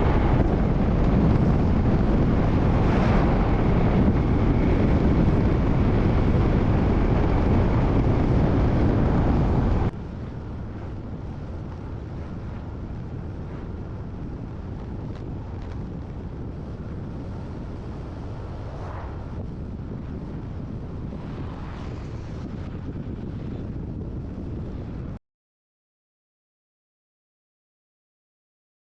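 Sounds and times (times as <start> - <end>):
motorbike road noise: 0.0 - 25.2
wind rushing over microphone: 0.0 - 25.2.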